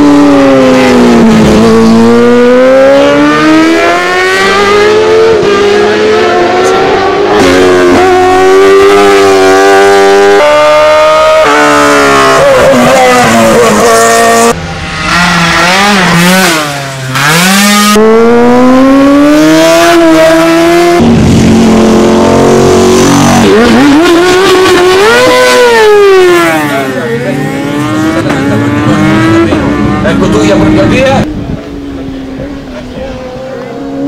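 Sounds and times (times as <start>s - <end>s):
racing motorcycles passing: 0.0s - 34.0s.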